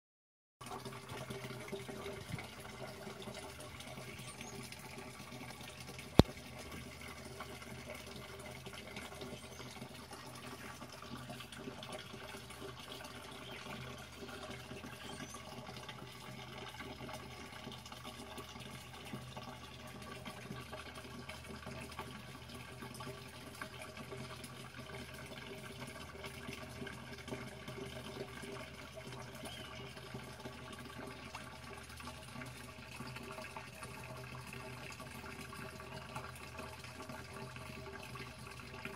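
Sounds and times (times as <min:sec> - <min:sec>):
water splashing into a pond: 0:00.6 - 0:38.9.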